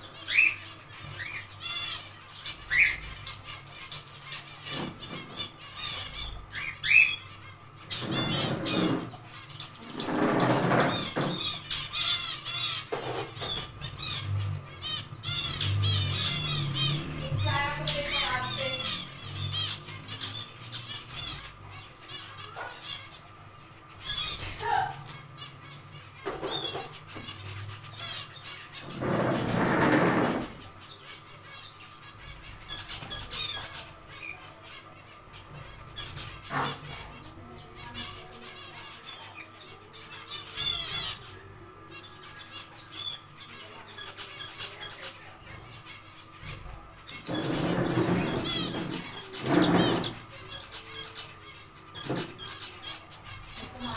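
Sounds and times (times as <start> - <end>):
finches chirping: 0.0 - 53.9.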